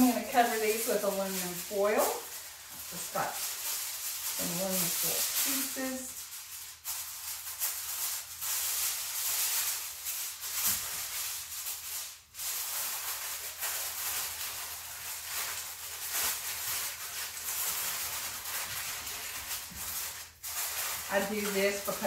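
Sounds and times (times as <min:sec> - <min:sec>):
aluminum foil crinkling: 0:00.0 - 0:22.0.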